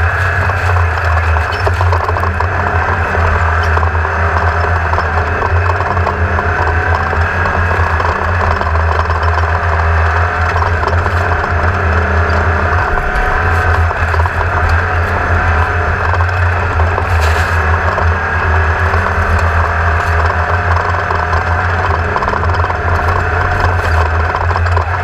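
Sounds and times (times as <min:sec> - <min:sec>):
engine droning: 0:00.0 - 0:25.0
rough rattling noise: 0:00.0 - 0:25.0.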